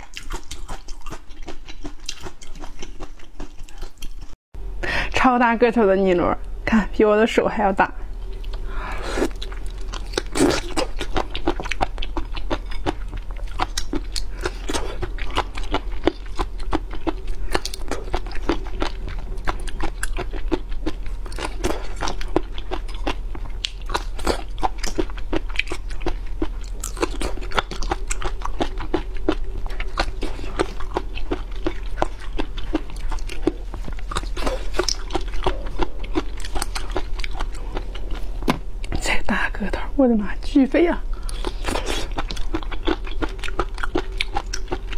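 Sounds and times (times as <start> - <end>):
person chewing crunchy food: 0.0 - 4.4, 8.2 - 39.0, 41.1 - 44.9
low steady hum: 0.0 - 44.9.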